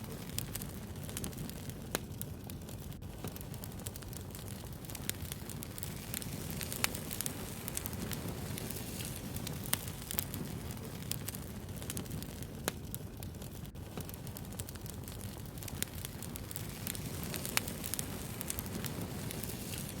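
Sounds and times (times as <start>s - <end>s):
fire crackles and pops: 0.0s - 20.0s
wood fire rushing: 0.0s - 20.0s.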